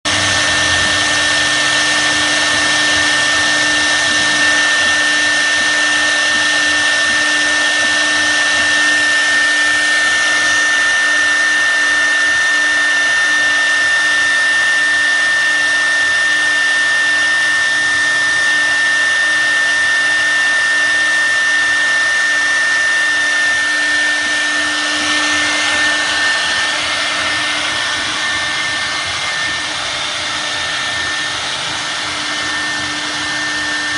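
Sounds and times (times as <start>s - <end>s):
router bit cutting wood: 0.0s - 33.9s
router spindle high-pitched whine: 0.0s - 33.9s.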